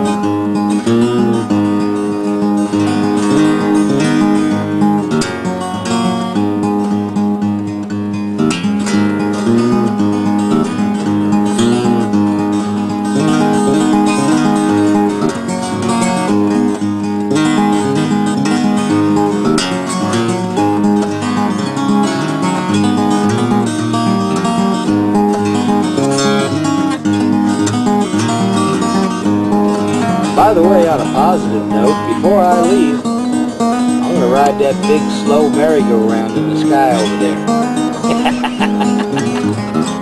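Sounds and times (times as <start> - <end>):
acoustic guitar music: 0.0 - 40.0.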